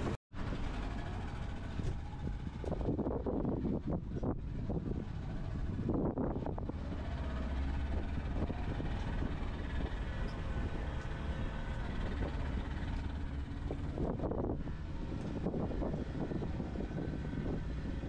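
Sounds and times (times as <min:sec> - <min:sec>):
boat engine rumbling: 0:00.0 - 0:18.0
wind: 0:00.0 - 0:18.0.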